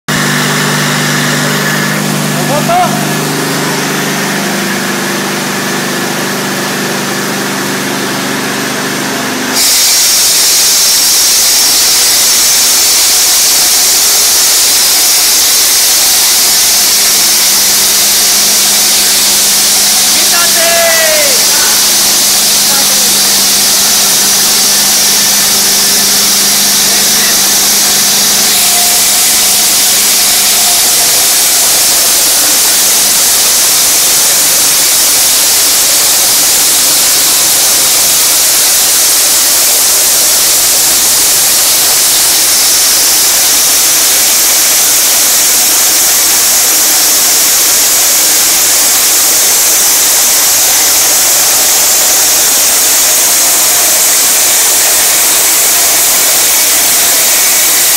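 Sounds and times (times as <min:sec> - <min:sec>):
concrete saw cutting: 0:00.0 - 0:57.9.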